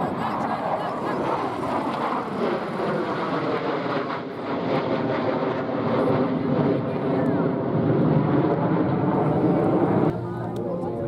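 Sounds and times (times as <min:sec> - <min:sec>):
jet flying over: 0:00.0 - 0:11.0.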